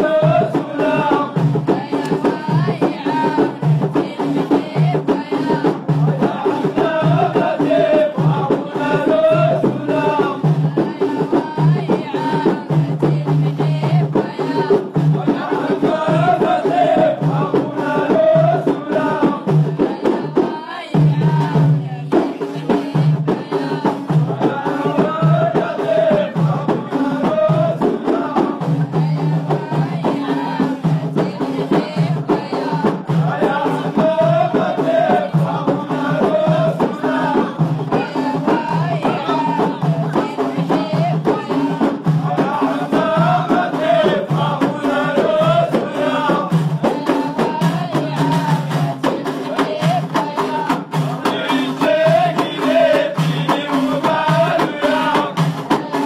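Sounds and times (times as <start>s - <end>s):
frame drums beating: 0.0s - 56.0s
men chanting in unison: 0.0s - 56.0s.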